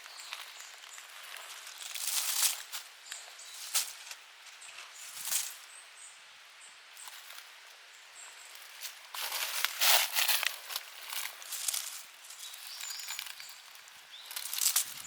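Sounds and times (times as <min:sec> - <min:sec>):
footsteps crunching dry leaves: 0:00.0 - 0:05.6, 0:08.4 - 0:15.0.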